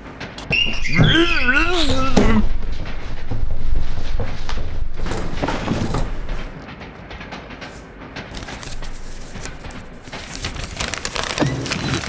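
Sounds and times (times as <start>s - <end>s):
railway carriage rumble: 0.0s - 12.0s
track clicks and creaks: 0.0s - 12.0s.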